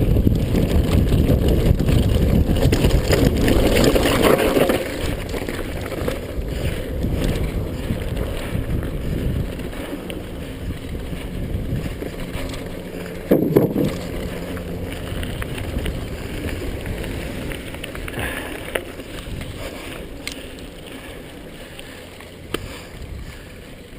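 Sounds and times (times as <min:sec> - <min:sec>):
wind on microphone: 0:00.0 - 0:20.1
rough rumble of trail riding: 0:00.0 - 0:23.9.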